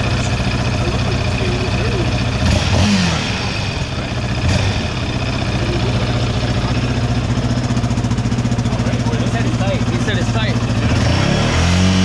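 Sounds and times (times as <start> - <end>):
four-stroke engine idling and revving: 0.0 - 12.0
rattle in muffler: 0.0 - 12.0.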